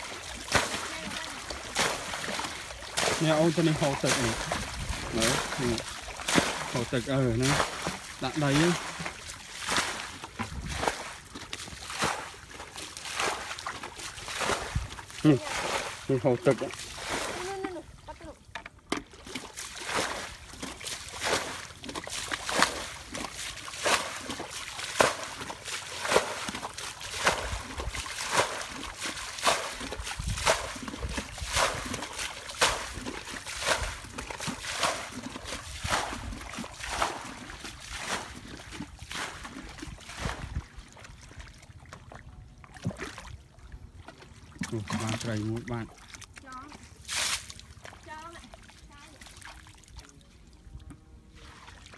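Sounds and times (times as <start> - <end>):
bucket scooping water: 0.0 - 51.9
water splashing: 0.0 - 51.9.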